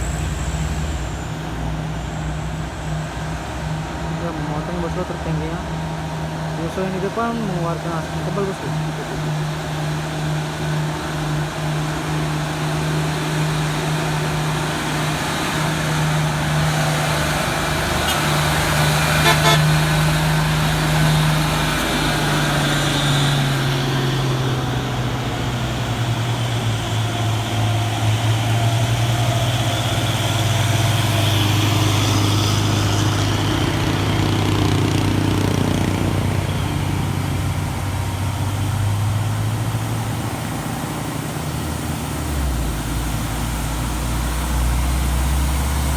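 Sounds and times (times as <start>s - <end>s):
heavy truck engines labouring: 0.0s - 45.9s.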